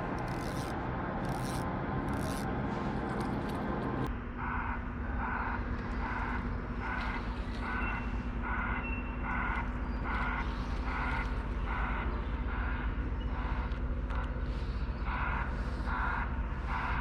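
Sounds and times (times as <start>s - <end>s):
heavy machinery rumbling: 0.0s - 17.0s.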